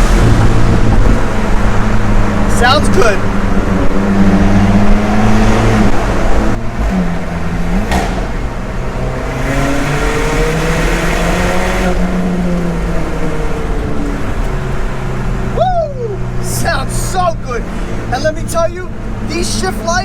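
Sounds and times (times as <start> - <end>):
car engine pulling under load: 3.2 - 20.0.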